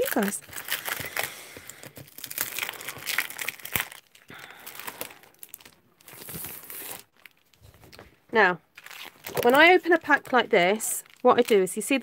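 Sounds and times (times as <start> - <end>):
cellophane and paper crinkling: 0.0 - 12.0.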